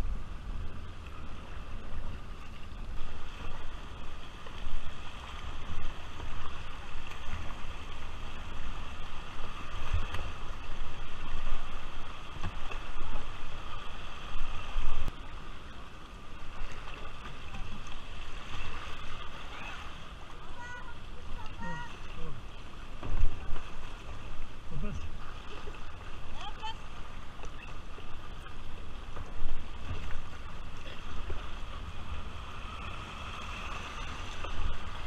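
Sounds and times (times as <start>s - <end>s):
paddle strokes in water: 0.0s - 35.0s
river water rushing and splashing: 0.0s - 35.0s.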